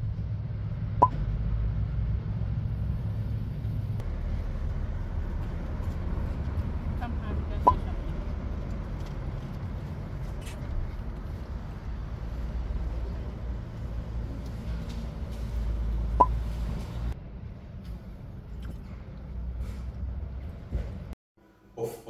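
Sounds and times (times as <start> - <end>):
street traffic rumble: 0.0 - 21.2.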